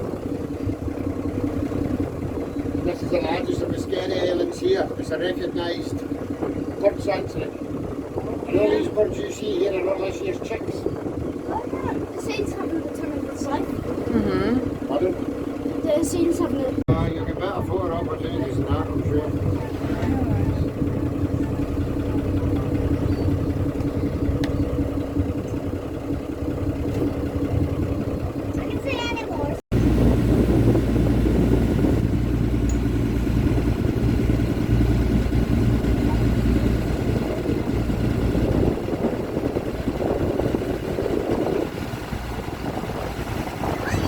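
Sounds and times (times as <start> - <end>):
boat engine rumbling: 0.0 - 44.0.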